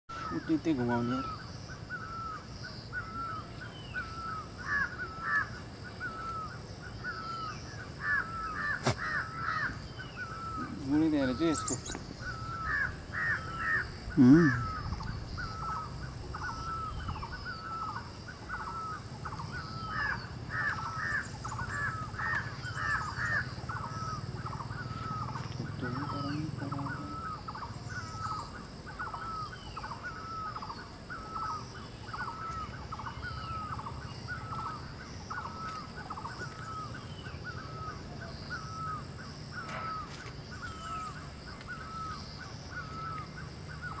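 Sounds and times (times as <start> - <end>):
bird calling: 0.1 - 44.0.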